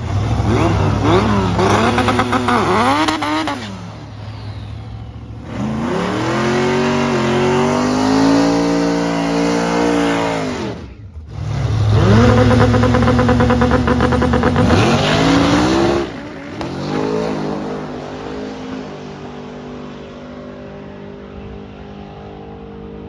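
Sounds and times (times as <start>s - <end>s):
drag car engine revving: 0.0s - 23.0s.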